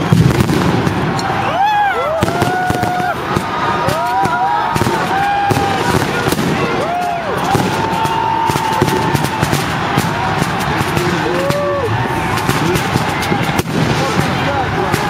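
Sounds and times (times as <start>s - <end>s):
fireworks and firecrackers banging: 0.0s - 15.0s
voices calling out: 0.0s - 15.0s.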